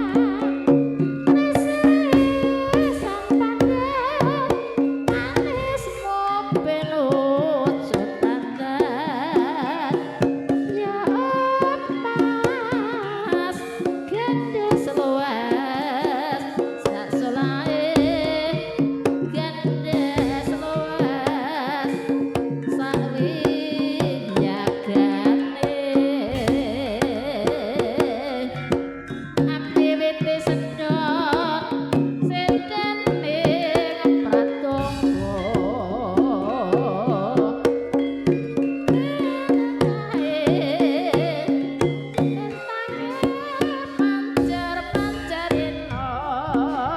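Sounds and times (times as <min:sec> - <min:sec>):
person singing: 0:00.0 - 0:28.8, 0:29.5 - 0:37.9, 0:38.8 - 0:46.9
hand drum strokes: 0:00.0 - 0:46.9
musical accompaniment: 0:00.0 - 0:46.9.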